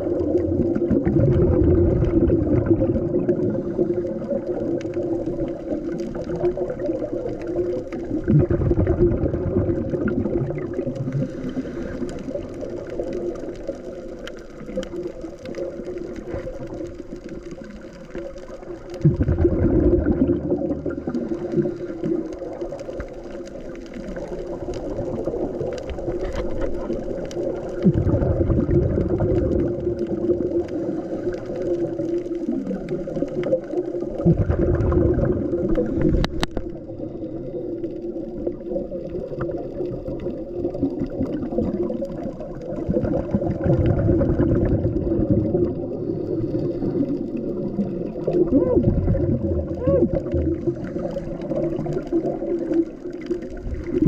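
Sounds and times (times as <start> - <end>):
underwater bubbles rushing out: 0.0 - 54.0.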